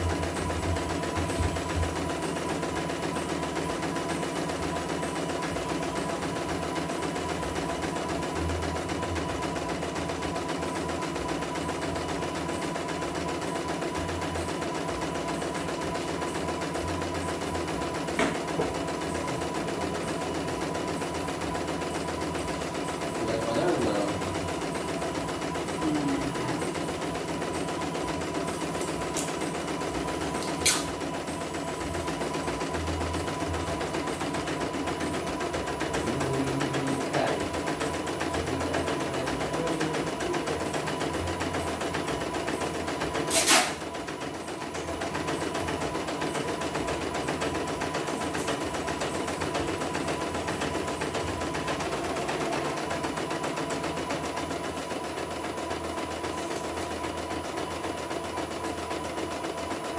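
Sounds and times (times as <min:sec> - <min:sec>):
embroidery machine stitching: 0:00.0 - 0:59.9.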